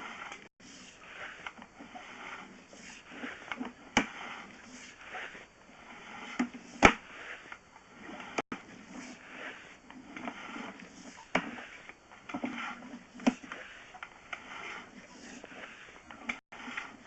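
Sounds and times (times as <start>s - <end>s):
camera cable scraping in pipe: 0.0s - 17.0s.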